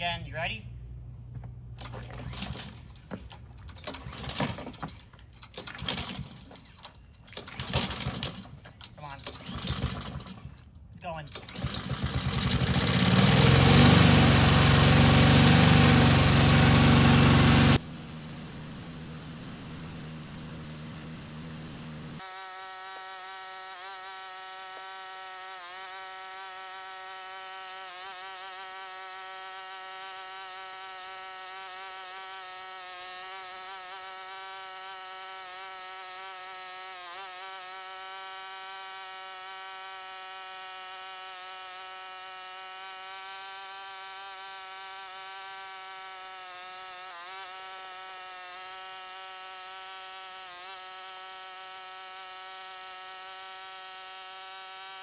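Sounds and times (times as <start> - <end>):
lawnmower engine buzzing: 1.3 - 10.7, 11.3 - 55.0.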